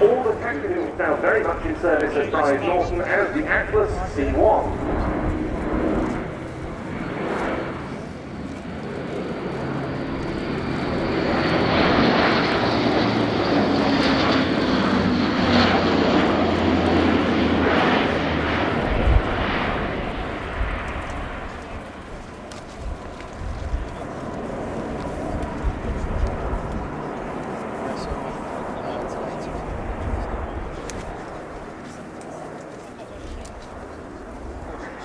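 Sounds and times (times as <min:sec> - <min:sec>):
turboprop aircraft droning roar: 0:00.0 - 0:35.0.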